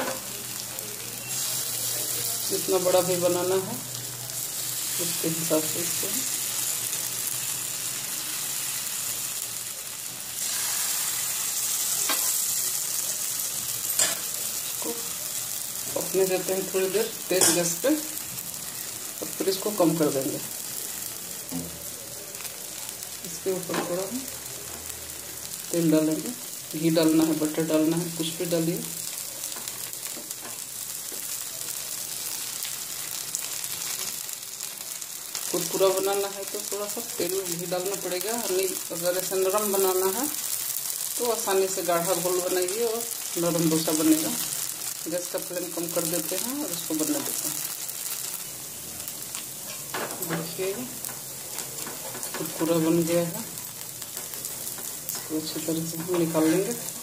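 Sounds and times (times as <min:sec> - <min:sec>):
batter sizzling on hot pan: 0:00.0 - 0:57.0.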